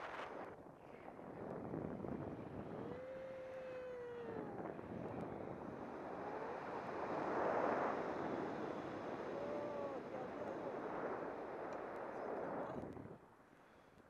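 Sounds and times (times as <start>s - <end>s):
airflow rushing over microphone: 1.4s - 13.1s.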